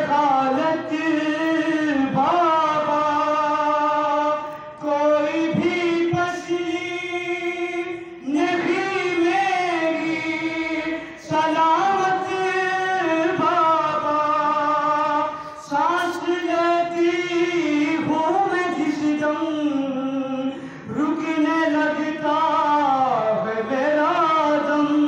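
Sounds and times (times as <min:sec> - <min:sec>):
man chanting a lament: 0:00.0 - 0:25.0.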